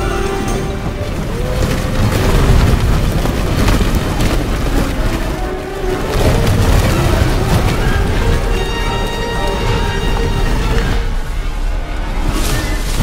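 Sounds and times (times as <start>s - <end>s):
deep booming rumbles: 0.0s - 13.0s
orchestral music: 0.0s - 13.0s
rushing noise: 0.0s - 13.0s.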